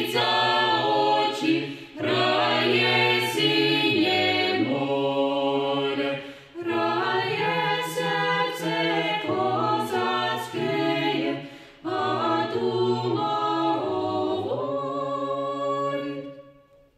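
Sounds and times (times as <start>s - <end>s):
mixed choir singing in harmony: 0.0s - 16.9s.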